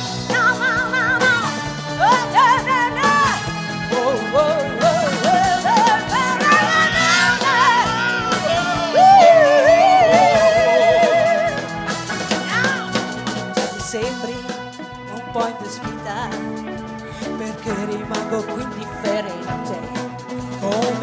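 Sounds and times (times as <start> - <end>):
pop band instrumental: 0.0 - 21.0.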